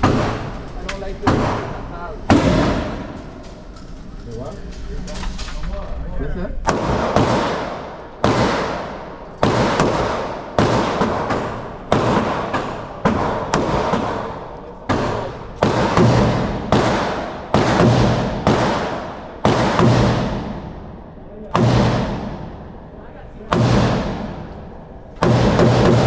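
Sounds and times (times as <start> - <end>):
gunshots echoing: 0.0 - 3.8, 6.6 - 26.0.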